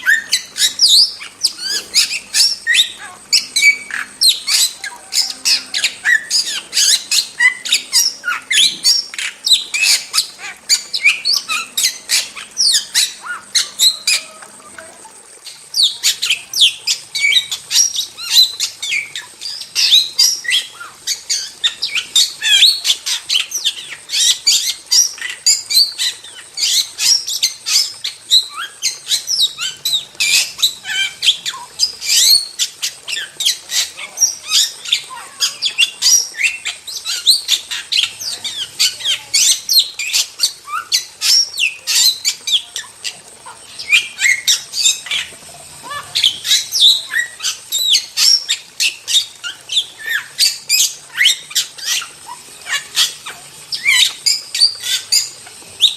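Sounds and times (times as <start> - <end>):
starling singing: 0.0 - 55.9.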